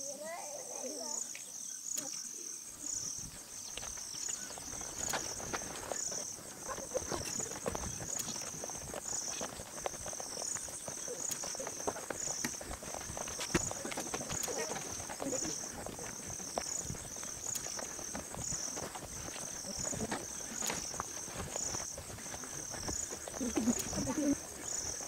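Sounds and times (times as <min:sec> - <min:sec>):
insects chirping: 0:00.0 - 0:25.0
footsteps crunching on dirt path: 0:02.8 - 0:25.0.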